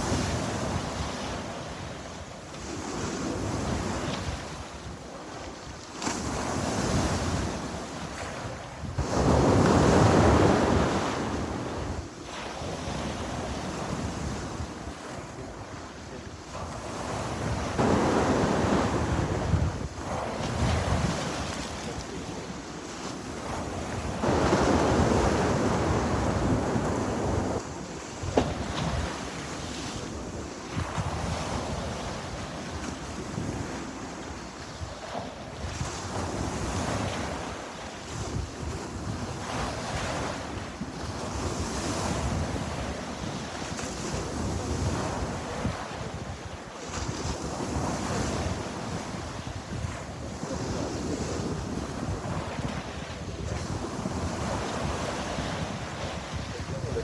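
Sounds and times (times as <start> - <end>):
sea waves breaking on shore: 0.0 - 57.0
wind noise on microphone: 0.0 - 57.0.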